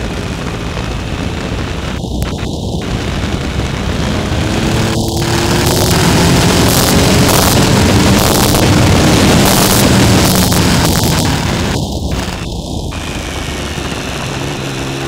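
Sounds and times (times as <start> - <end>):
motorcycle engine accelerating: 0.0 - 15.0
wind on microphone: 0.0 - 15.0.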